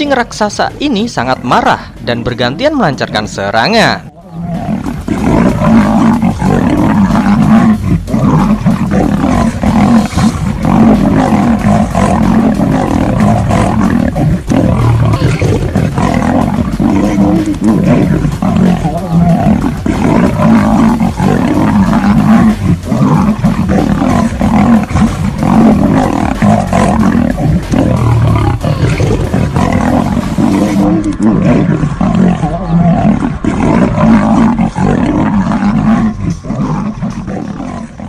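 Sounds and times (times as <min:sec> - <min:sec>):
big cats roaring and growling: 0:00.0 - 0:38.0.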